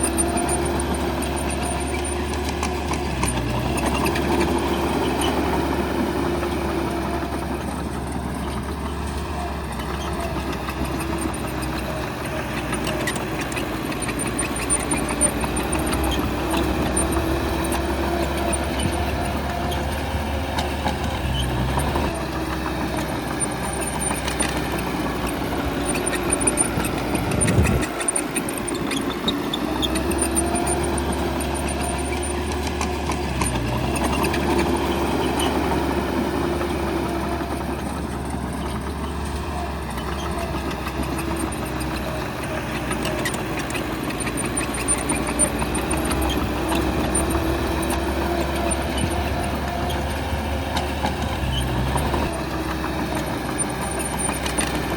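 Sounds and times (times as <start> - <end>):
heavy machinery diesel engine: 0.0 - 54.9.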